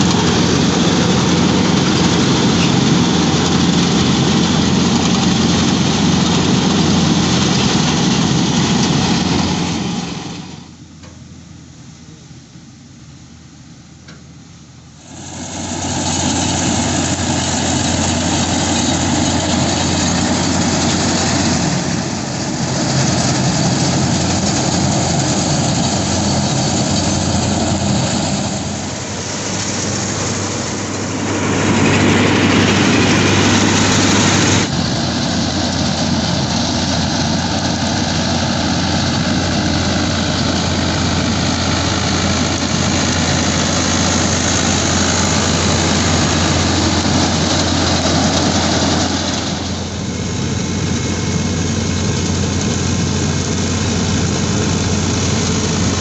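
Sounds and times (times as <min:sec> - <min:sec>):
reaper machinery rushing noise: 0:00.0 - 0:10.7, 0:15.0 - 0:56.0
tractor engine hum: 0:00.0 - 0:12.3, 0:14.1 - 0:56.0.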